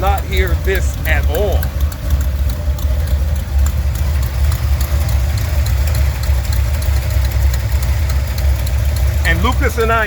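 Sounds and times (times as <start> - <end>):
car engine idling: 0.0 - 10.0
engine ticking: 0.0 - 10.0.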